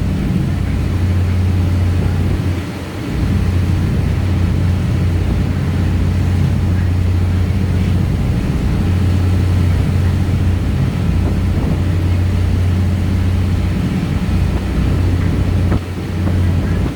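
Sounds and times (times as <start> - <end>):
ferry diesel engine droning: 0.0 - 16.9.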